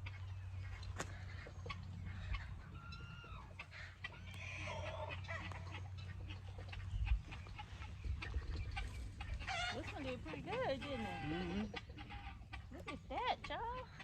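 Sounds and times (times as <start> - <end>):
chickens clucking: 0.0 - 14.0
rising-and-falling chicken calls: 1.0 - 12.8.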